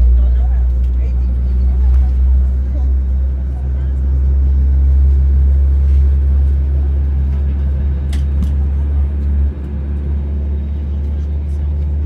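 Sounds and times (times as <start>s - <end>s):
airplane cabin rumble while taxiing: 0.0s - 12.0s.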